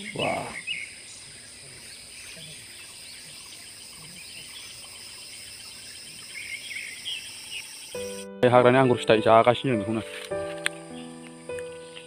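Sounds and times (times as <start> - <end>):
bird chirps: 0.0 - 8.4, 9.8 - 12.0
insects trilling: 0.0 - 12.0.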